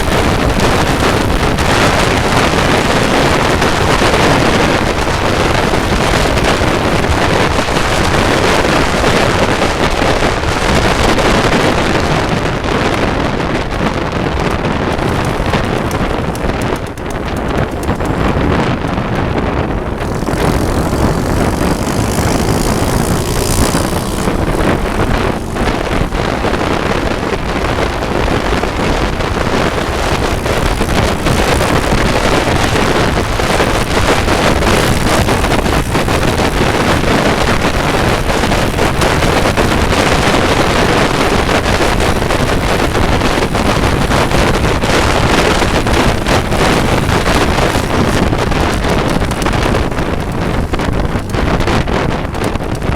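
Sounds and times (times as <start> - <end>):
motorcycle engine: 0.0 - 52.9
wind buffeting microphone: 0.0 - 52.9.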